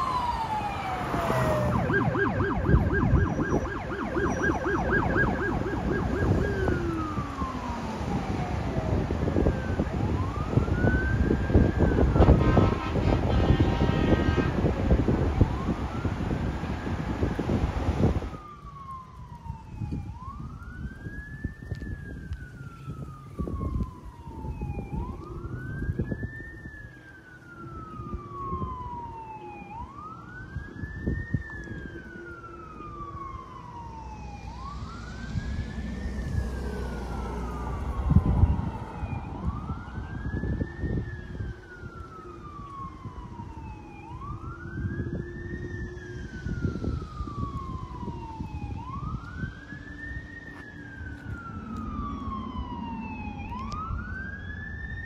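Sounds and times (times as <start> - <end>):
emergency siren wailing: 0.0 - 55.0
vehicle rumble: 0.0 - 55.0
wind noise: 0.0 - 55.0.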